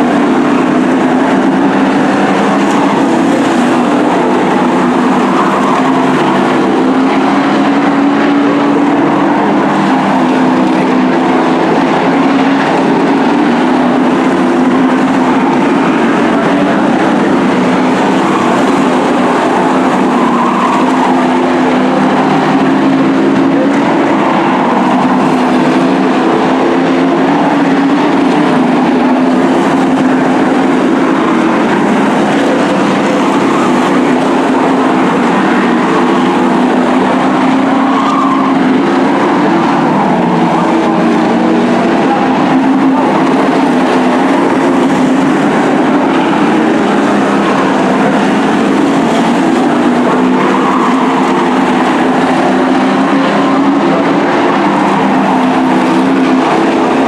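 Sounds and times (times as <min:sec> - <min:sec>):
race truck engines droning: 0:00.0 - 0:57.0.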